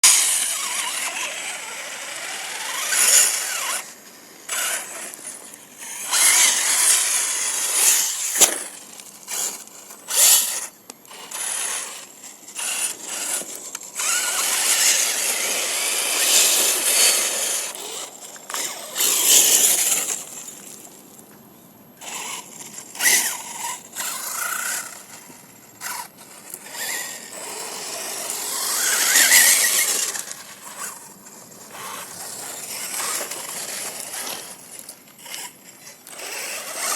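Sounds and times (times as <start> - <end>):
toy car motor whining: 0.0 - 20.8, 22.0 - 36.9.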